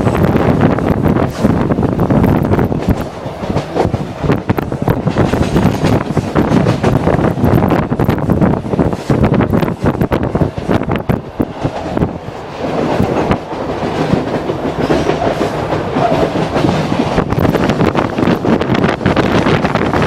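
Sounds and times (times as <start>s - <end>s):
train cars rumbling: 0.0s - 20.0s.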